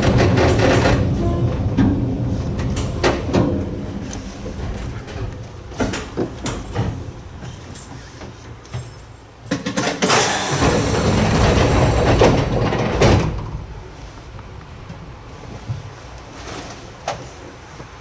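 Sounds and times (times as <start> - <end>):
train rumbling and clattering: 0.0 - 18.0.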